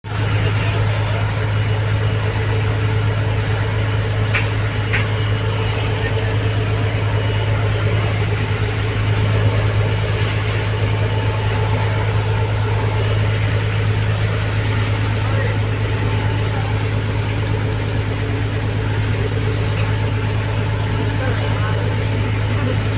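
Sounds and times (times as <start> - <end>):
motor humming steadily: 0.0 - 22.9.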